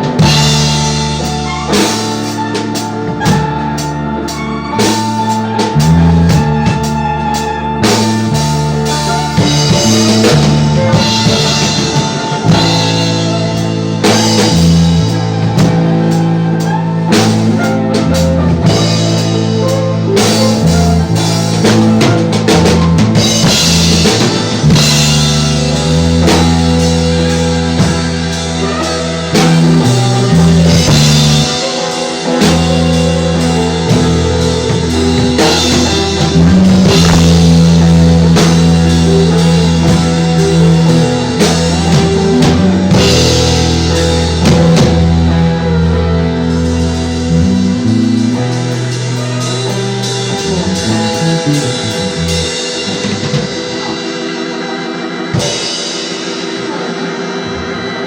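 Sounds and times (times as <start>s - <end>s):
instrumental reggae music: 0.0s - 58.0s.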